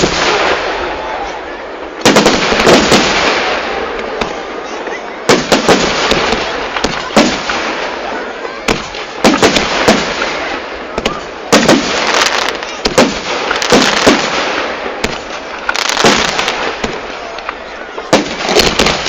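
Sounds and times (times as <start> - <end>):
fireworks crackle: 0.0 - 1.2, 2.0 - 4.5, 5.2 - 19.0
fireworks bangs: 0.0 - 19.0.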